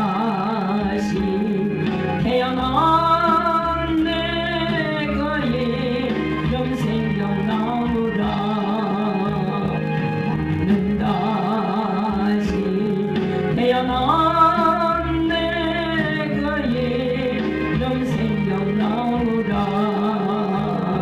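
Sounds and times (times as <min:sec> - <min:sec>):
music: 0:00.0 - 0:21.0
person singing: 0:00.0 - 0:21.0.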